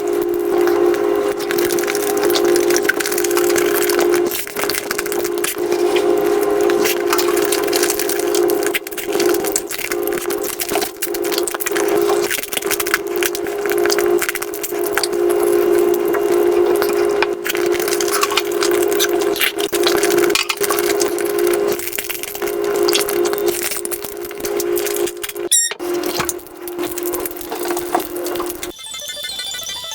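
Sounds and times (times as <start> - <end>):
steady hum: 0.0 - 28.8
sped-up eating sounds: 0.0 - 29.9.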